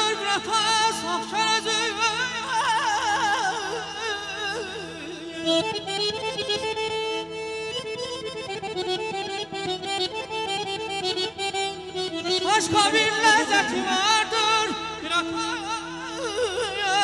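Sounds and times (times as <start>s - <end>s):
accordion melody: 0.0s - 17.0s.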